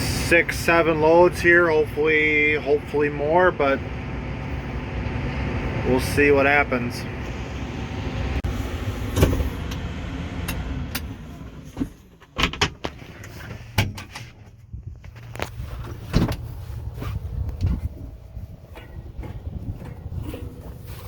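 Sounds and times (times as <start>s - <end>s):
low machinery engine drone: 0.0s - 21.0s.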